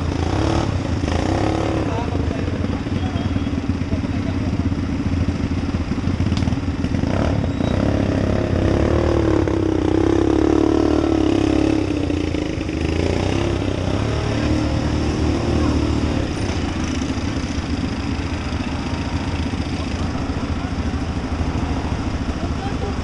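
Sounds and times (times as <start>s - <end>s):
quad bike engine revving: 0.0s - 23.0s
quad bike engines idling: 0.0s - 23.0s.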